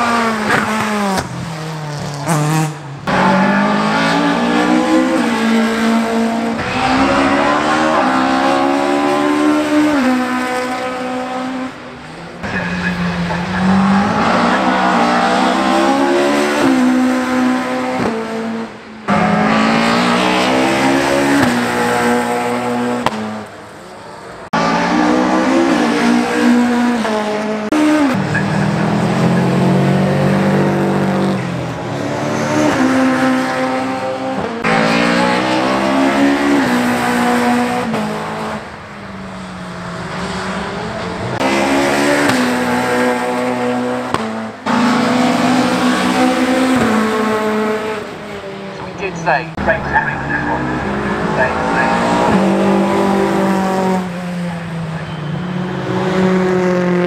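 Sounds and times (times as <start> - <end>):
rally car engines passing at speed: 0.0 - 57.0.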